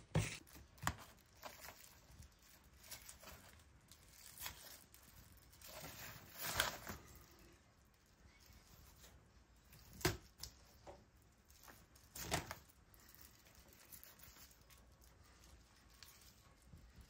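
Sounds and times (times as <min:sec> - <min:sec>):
paper crinkling and rustling: 0:00.4 - 0:17.0.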